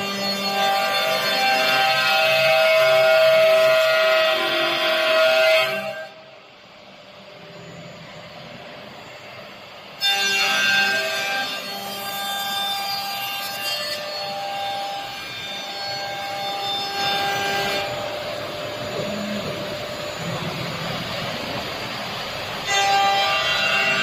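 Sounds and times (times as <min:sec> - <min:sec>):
cnc router spindle whine: 0:00.0 - 0:24.0.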